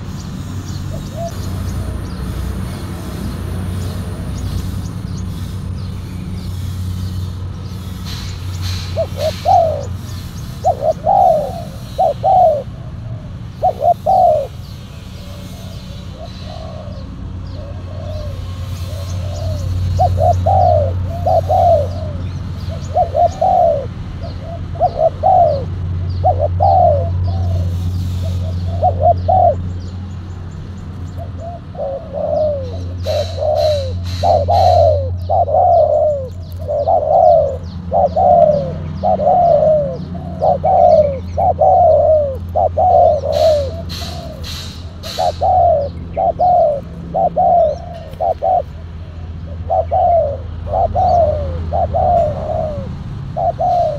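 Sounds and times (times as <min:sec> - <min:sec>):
doves cooing: 0:00.0 - 0:53.9.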